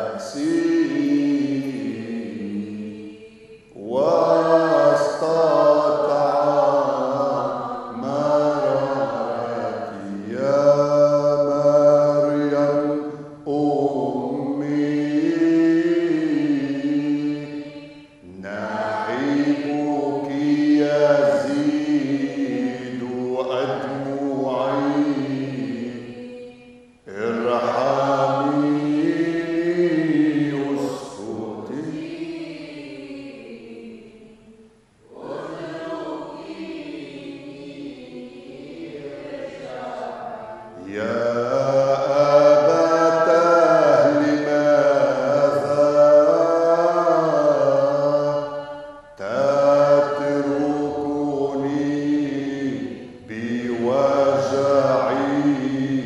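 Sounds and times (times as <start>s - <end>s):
liturgical hymn chanted: 0.0s - 56.0s.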